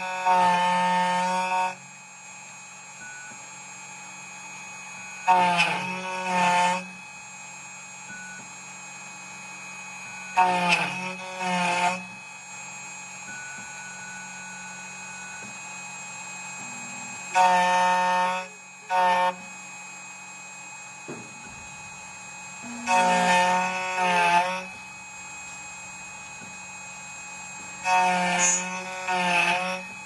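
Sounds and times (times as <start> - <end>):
machine low hum: 0.0 - 30.0
machine motor whine: 0.0 - 30.0.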